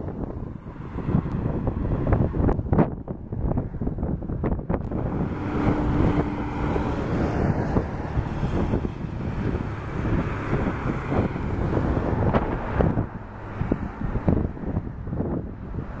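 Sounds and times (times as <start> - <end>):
cars and motorcycles driving past: 0.0 - 16.0
steady engine hum: 0.0 - 16.0
wind buffeting microphone: 0.0 - 16.0.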